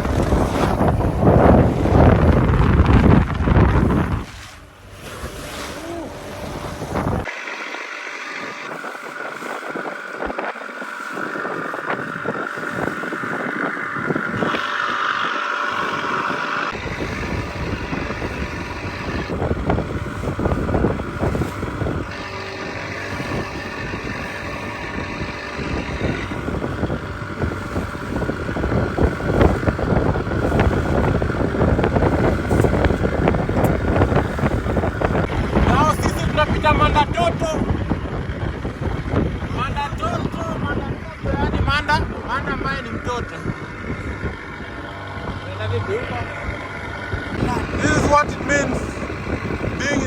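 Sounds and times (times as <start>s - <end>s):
boat motor running: 0.0s - 50.0s
wind buffeting microphone: 0.0s - 50.0s.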